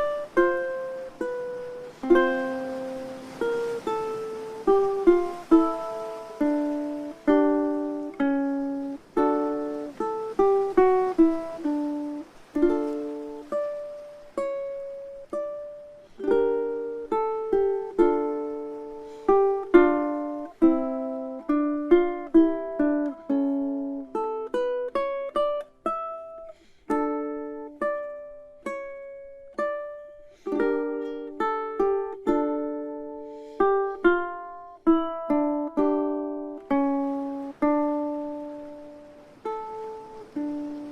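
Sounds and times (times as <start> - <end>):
ukulele melody: 0.0 - 40.9.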